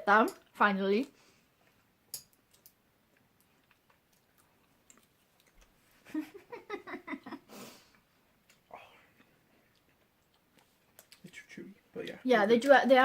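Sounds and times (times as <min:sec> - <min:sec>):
faint chewing: 0:00.4 - 0:06.1, 0:07.8 - 0:12.8.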